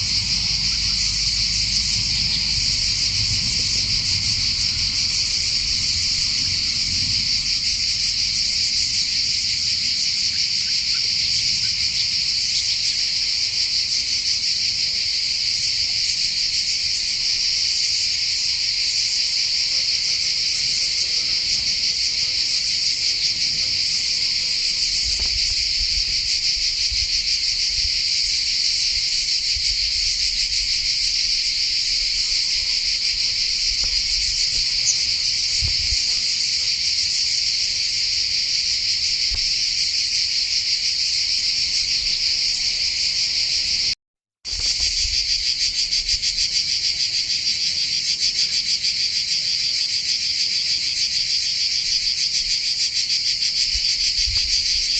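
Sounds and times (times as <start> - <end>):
insects buzzing: 0.0 - 54.9.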